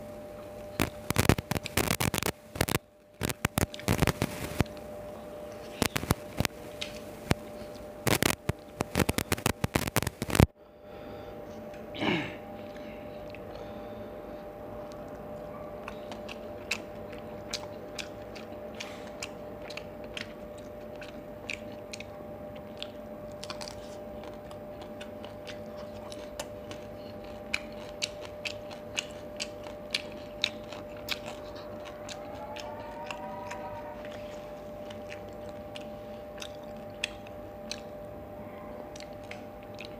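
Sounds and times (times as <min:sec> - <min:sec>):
crunching fried fish: 0:00.0 - 0:10.5, 0:15.8 - 0:38.0
faint steady hum: 0:00.0 - 0:39.9
wet chewing and mouth clicks: 0:00.3 - 0:10.5, 0:14.4 - 0:38.2, 0:38.8 - 0:39.9.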